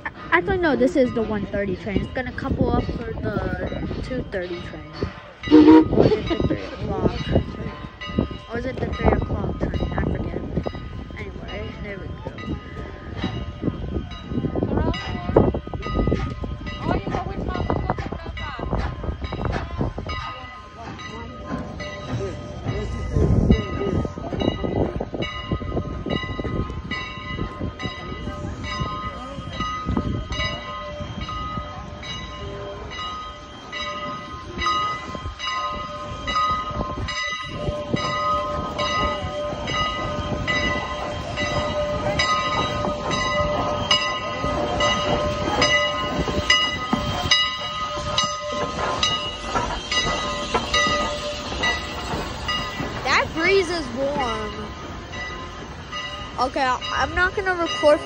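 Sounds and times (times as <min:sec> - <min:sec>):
locomotive bell ringing: 0:00.0 - 0:58.0
steam locomotive rumbling: 0:00.0 - 0:58.0.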